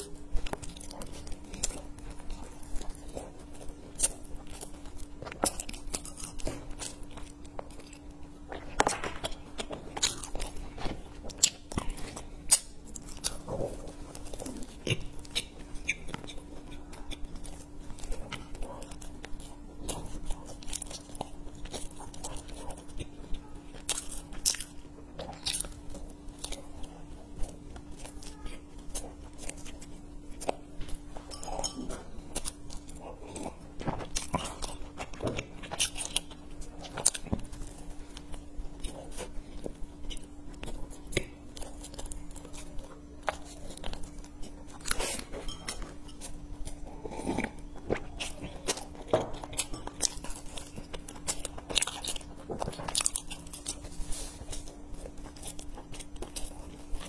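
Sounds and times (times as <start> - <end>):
faint steady hum: 0.0 - 57.0
person chewing food: 0.0 - 57.0.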